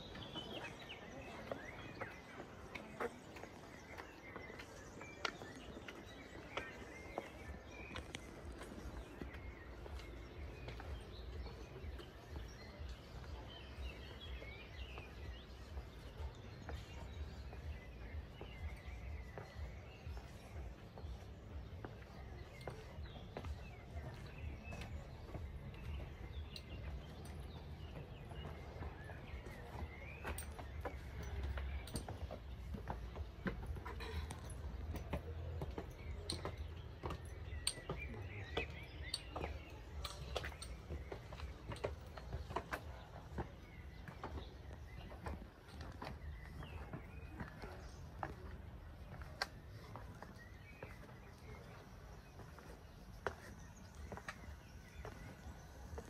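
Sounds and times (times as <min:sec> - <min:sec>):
footsteps on stone steps: 0:00.0 - 0:56.0.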